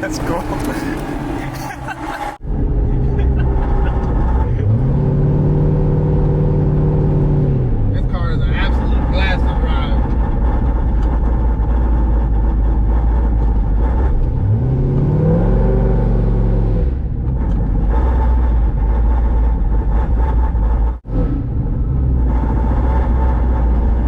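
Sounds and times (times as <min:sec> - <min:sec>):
car engine rumbling and revving: 0:00.0 - 0:24.0.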